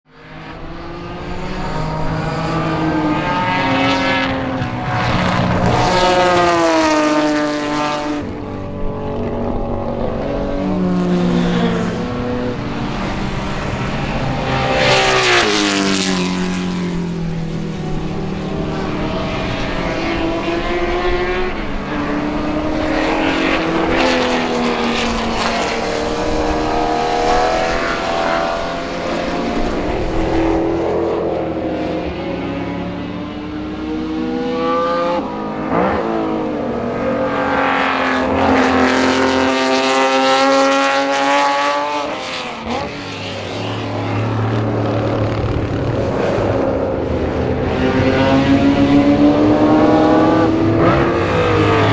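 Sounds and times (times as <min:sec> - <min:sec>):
race car engines accelerating: 0:00.1 - 0:51.9.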